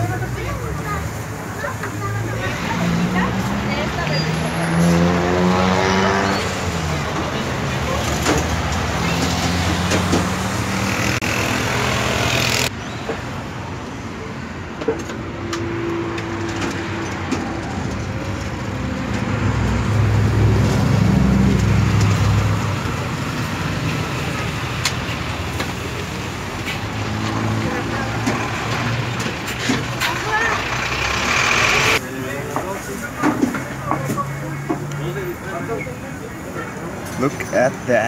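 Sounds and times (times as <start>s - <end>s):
road noise: 0.0s - 38.0s
vehicle engines: 0.0s - 38.0s.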